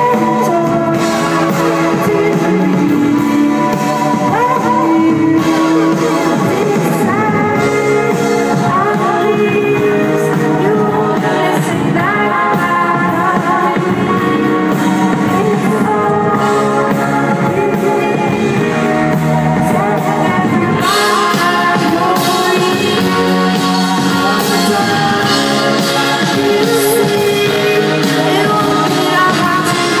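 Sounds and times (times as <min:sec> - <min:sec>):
electric guitar: 0:00.0 - 0:30.0
pop band playing: 0:00.0 - 0:30.0
woman singing into a microphone: 0:00.0 - 0:30.0.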